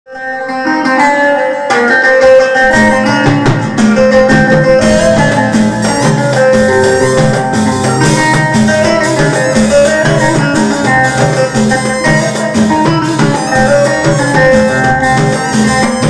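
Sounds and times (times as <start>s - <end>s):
electric guitar melody: 0.1s - 16.0s.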